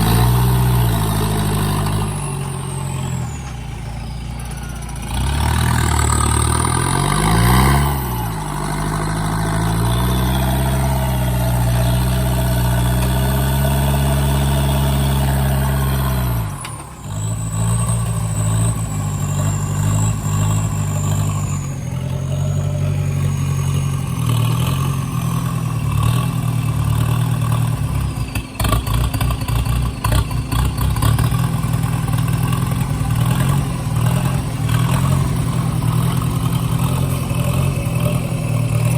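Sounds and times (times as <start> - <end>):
engine knocks and clatter: 0.0 - 38.9
off-road vehicle engine revving: 0.0 - 38.9.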